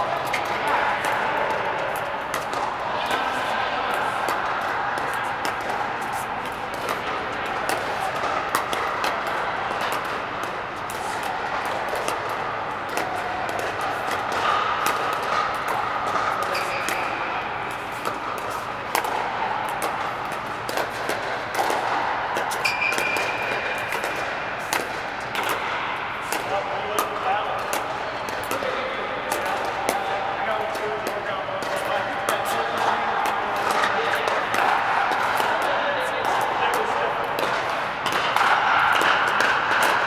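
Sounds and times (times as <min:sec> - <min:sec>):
background murmur: 0:00.0 - 0:40.0
paddles hitting balls: 0:00.0 - 0:40.0.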